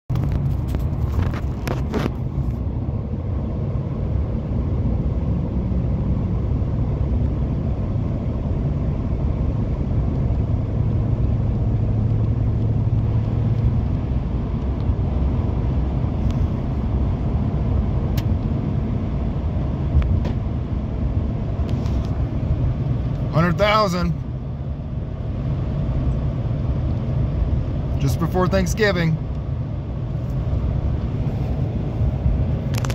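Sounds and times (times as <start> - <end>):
road noise: 0.0 - 32.9
truck engine drone: 0.1 - 32.9.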